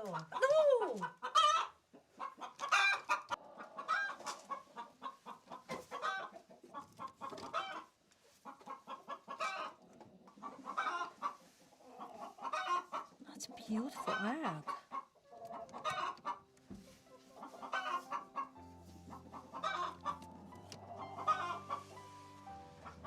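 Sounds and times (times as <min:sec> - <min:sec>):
hens clucking and cackling: 0:00.0 - 0:23.0.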